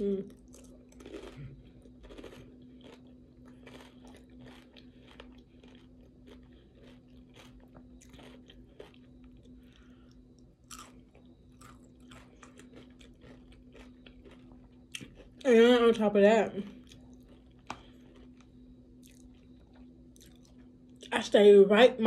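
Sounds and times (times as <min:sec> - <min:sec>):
chewing crunchy chips: 0:00.0 - 0:16.0, 0:16.7 - 0:21.2
faint steady hum: 0:00.0 - 0:22.0.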